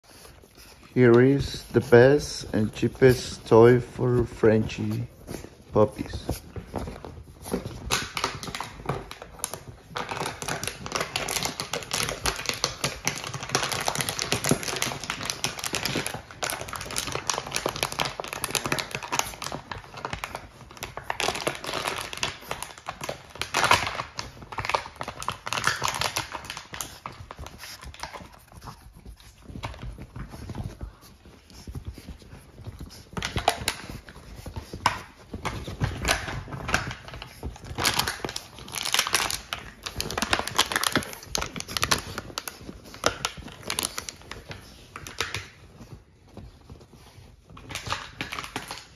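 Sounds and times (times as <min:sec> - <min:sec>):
plastic crinkling and clattering: 0:00.0 - 0:48.9
puppies chewing plastic bottle: 0:00.0 - 0:48.9.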